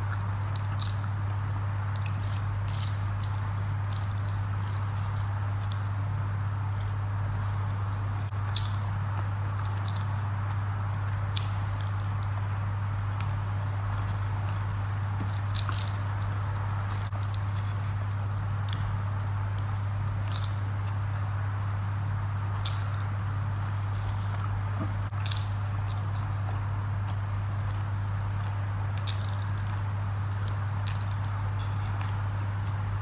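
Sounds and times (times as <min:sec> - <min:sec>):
low hum: 0:00.0 - 0:33.0
person chewing food: 0:00.0 - 0:33.0
squishing food by hand: 0:00.0 - 0:33.0.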